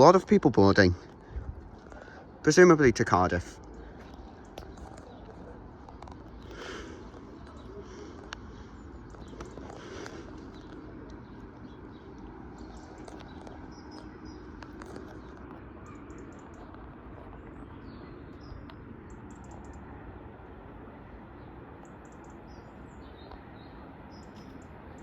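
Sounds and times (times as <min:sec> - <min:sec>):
small birds chirping: 0:00.0 - 0:25.0
train engines idling: 0:00.0 - 0:25.0.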